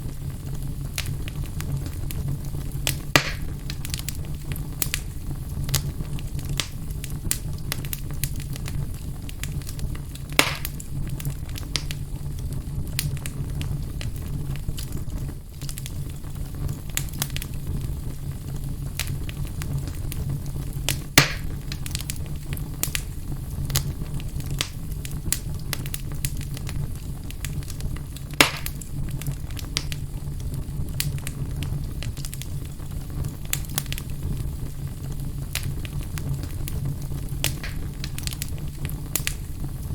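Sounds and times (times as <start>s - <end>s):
fire crackling: 0.0s - 39.9s
loud fire pops: 0.0s - 39.9s
low fire rumble: 0.0s - 39.9s.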